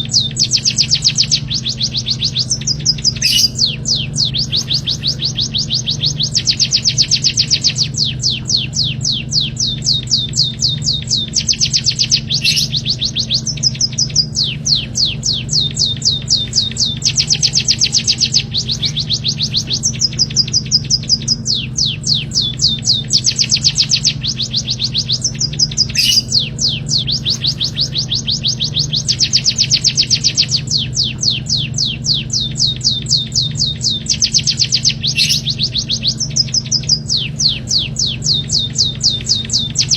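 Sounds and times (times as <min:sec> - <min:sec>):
bird trilling high chirps: 0:00.0 - 0:39.9
steady low hum: 0:00.0 - 0:39.9.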